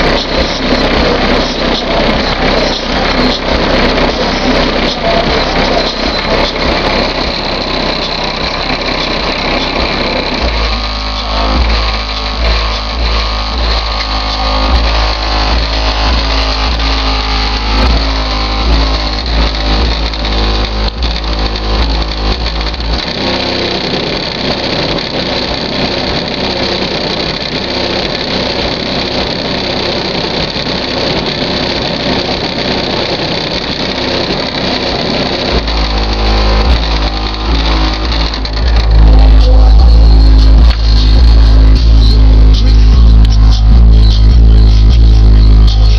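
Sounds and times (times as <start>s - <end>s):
rap song with heavy bass: 0.0s - 45.9s.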